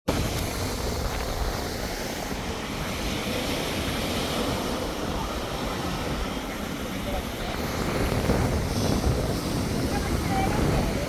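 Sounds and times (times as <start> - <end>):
surf: 0.0 - 11.0
wind on microphone: 0.1 - 11.0.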